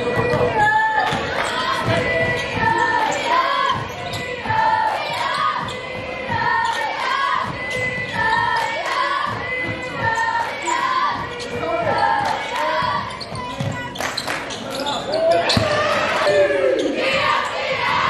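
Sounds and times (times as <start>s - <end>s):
sneakers squeaking: 0.0s - 18.0s.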